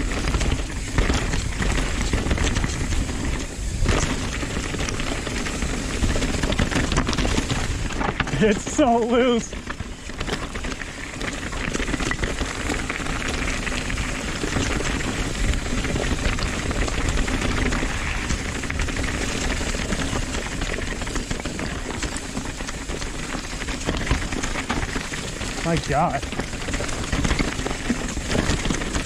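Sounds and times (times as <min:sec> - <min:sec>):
bike tyres crunching on stones: 0:00.0 - 0:29.0.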